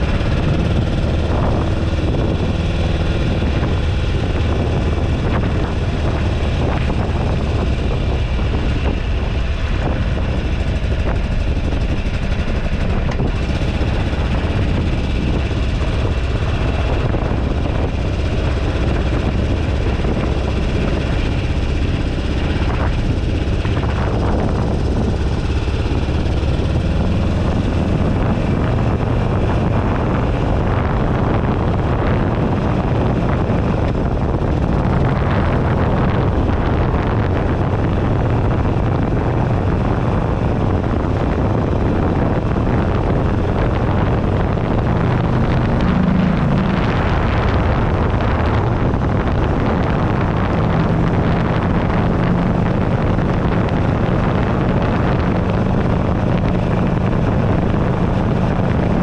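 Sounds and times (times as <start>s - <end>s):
motorcycle engine running: 0.0s - 59.0s
road noise: 0.0s - 59.0s
wind buffeting microphone: 0.0s - 59.0s.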